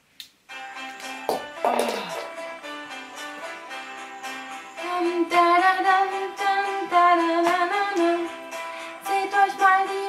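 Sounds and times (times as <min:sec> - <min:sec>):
music: 0:00.2 - 0:10.0.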